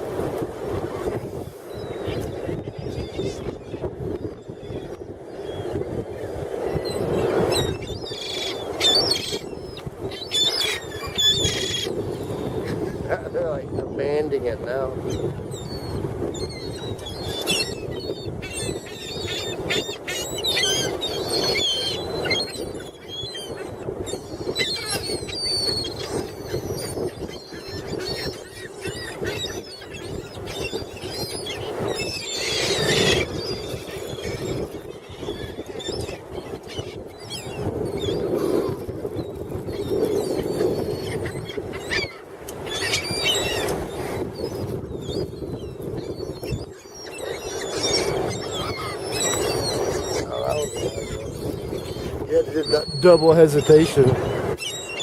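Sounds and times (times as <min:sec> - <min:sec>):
seagulls calling: 0:06.5 - 0:55.0.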